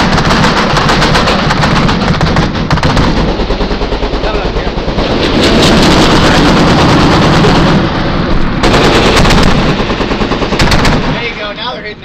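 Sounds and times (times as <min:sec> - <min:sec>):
automatic gunfire: 0:00.0 - 0:07.9, 0:08.6 - 0:11.5.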